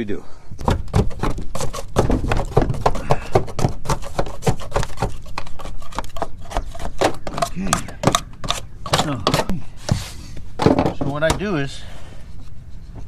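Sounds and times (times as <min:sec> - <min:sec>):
footsteps on metal roof: 0:00.6 - 0:11.8.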